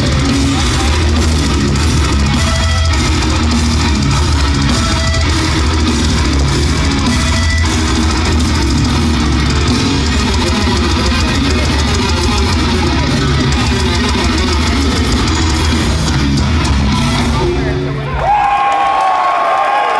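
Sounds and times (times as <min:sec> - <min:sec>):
fast dense drumming: 0:00.0 - 0:17.9
electric guitars: 0:00.0 - 0:18.6.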